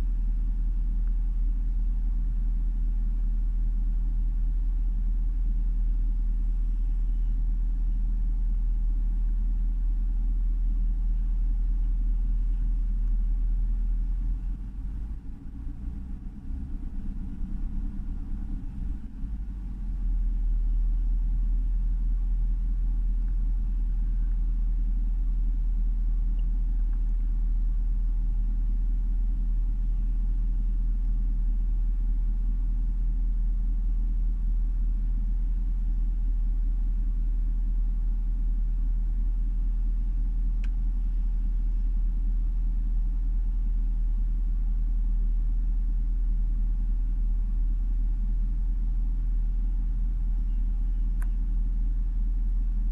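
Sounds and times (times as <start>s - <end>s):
car engine rough idling: 0.0s - 52.9s.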